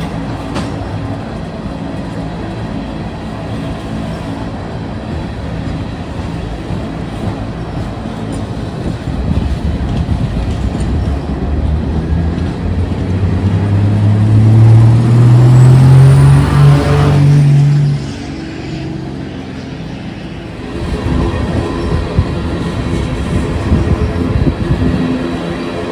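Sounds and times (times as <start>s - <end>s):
diesel locomotive engine drone: 0.0s - 25.9s
train rumbling past: 0.0s - 25.9s.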